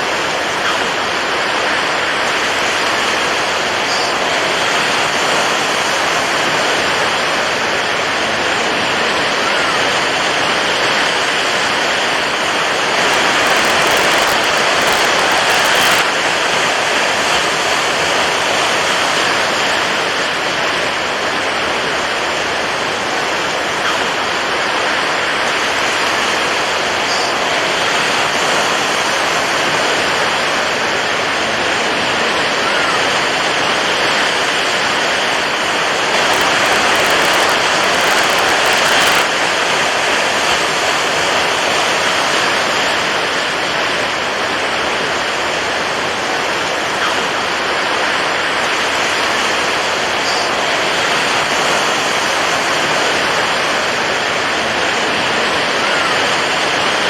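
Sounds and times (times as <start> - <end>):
water waves rushing: 0.2 - 27.0, 27.8 - 57.0.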